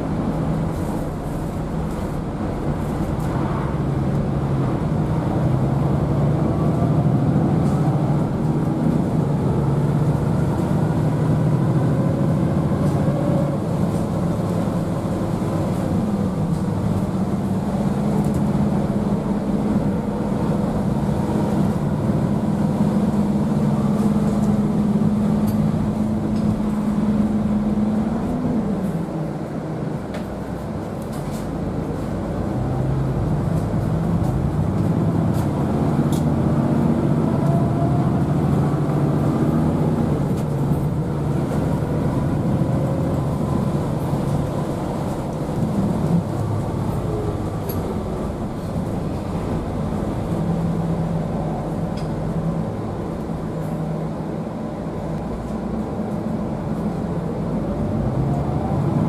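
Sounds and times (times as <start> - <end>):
bus engine from inside cabin: 0.0 - 59.0.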